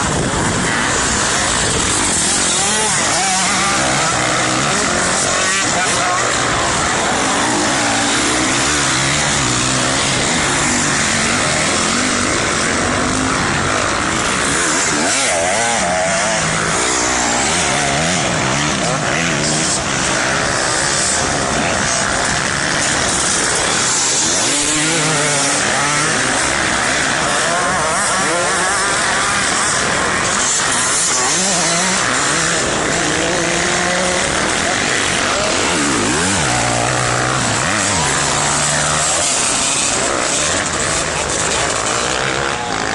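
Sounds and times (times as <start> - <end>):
dirt bike engine revving: 0.0 - 42.9
loud rushing noise: 0.0 - 42.9.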